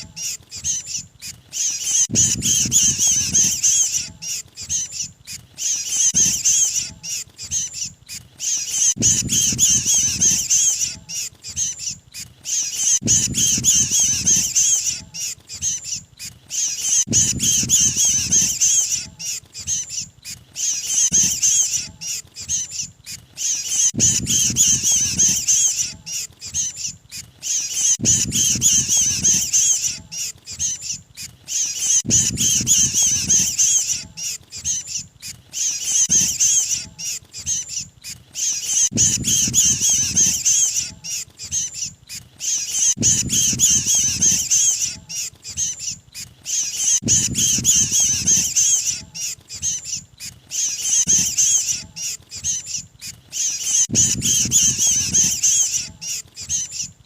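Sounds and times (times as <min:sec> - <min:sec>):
bird harsh chattering distress call: 0:00.0 - 0:57.0.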